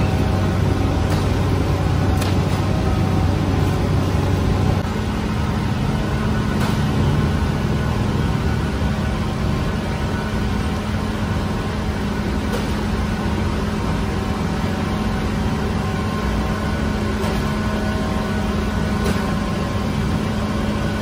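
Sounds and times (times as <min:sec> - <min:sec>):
constant drone tone: 0:00.0 - 0:21.0
machinery humming: 0:00.0 - 0:21.0.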